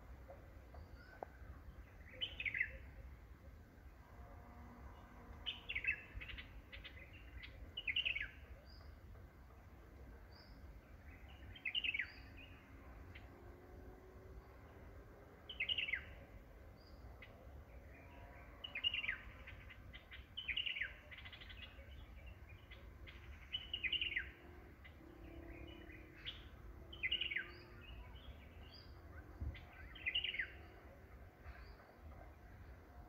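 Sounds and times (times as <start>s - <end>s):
faint low rumble: 0.0s - 33.0s.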